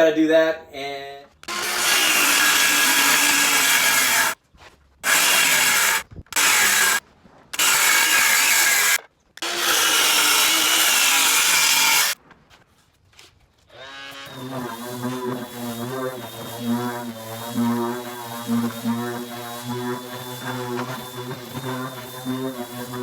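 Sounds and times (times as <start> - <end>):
power tool on wood: 1.4 - 4.4, 5.0 - 12.2, 13.7 - 23.0.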